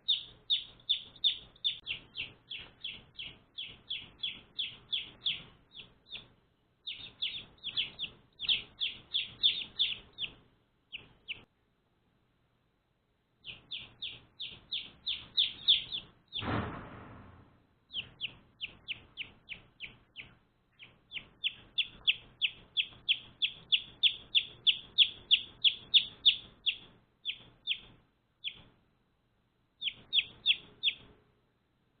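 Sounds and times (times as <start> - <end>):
baby chicks peeping: 0.0 - 11.5, 13.4 - 16.9, 17.8 - 28.8, 29.7 - 31.2.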